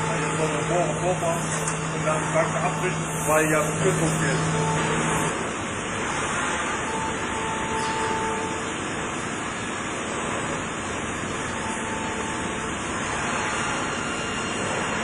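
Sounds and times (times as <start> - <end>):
boring machine running: 0.0 - 15.0.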